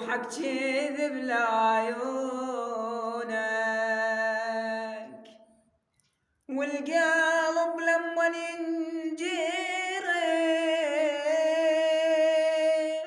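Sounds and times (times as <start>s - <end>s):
solo voice singing: 0.0s - 5.4s, 6.5s - 13.0s.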